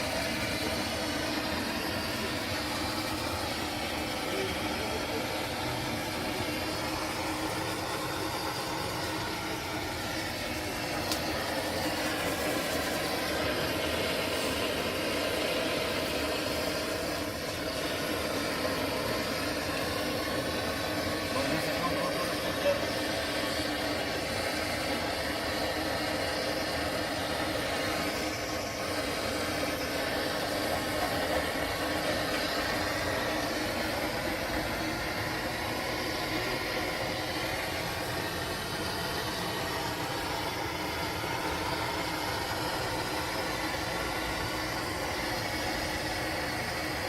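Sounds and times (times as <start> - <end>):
motor running steadily: 0.0 - 47.0.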